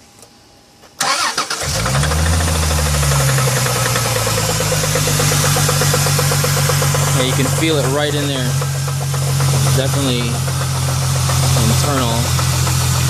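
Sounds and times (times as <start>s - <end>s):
starter cranking engine: 1.0s - 13.0s
engine idling with ticking knock: 1.7s - 13.0s.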